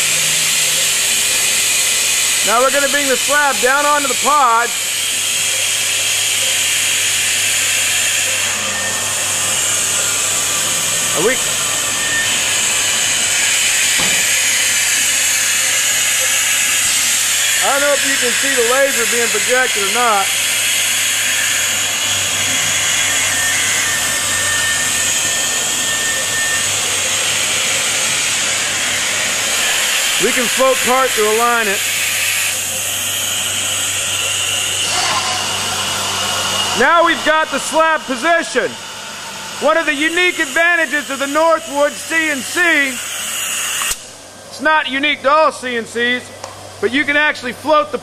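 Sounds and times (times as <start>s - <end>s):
loud air hiss: 0.0s - 44.1s.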